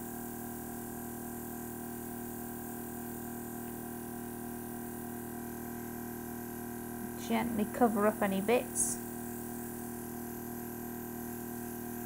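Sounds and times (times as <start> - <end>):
compressor humming: 1.5 - 12.0.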